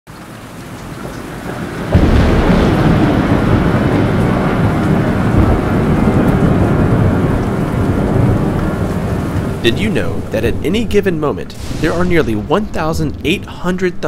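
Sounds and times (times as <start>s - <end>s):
rain hissing: 0.1s - 14.0s
thunder rumbling: 1.0s - 14.0s.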